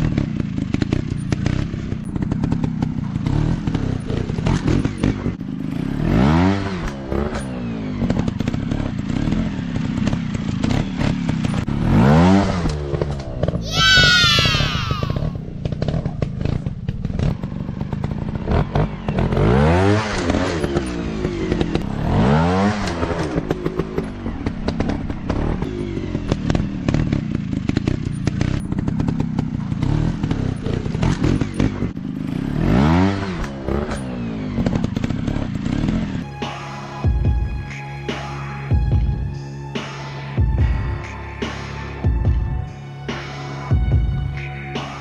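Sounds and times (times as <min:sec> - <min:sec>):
dirt bike engine revving: 0:00.0 - 0:36.5.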